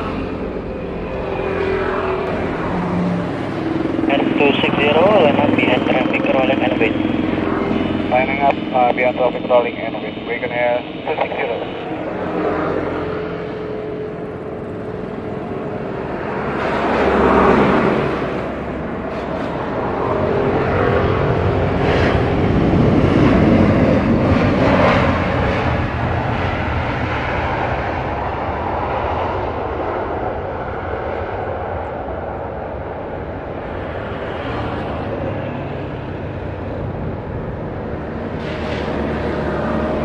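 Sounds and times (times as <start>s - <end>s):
jet plane landing: 0.0s - 40.0s.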